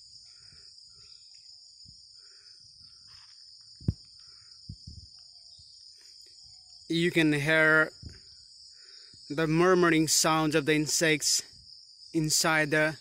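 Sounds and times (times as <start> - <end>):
insects high-pitched chorus: 0.0 - 13.0.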